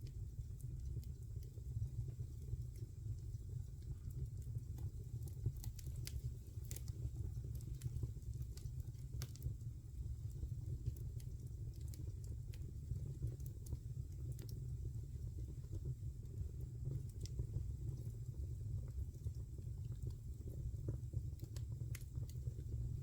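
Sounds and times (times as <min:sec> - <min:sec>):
flames rumbling: 0:00.0 - 0:23.0
wood fire crackling: 0:00.0 - 0:23.0.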